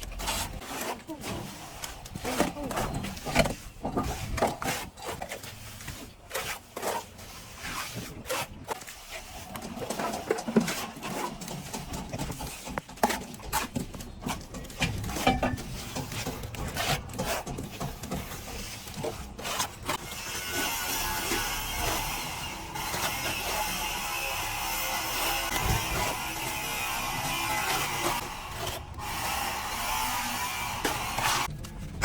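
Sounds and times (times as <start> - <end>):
trowel scraping plaster on wall: 0.0 - 32.0.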